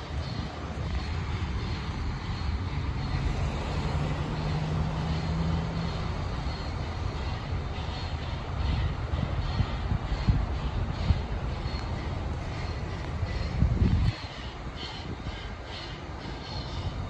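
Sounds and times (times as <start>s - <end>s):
steam locomotive rumble: 0.0s - 17.0s
street traffic: 0.0s - 17.0s.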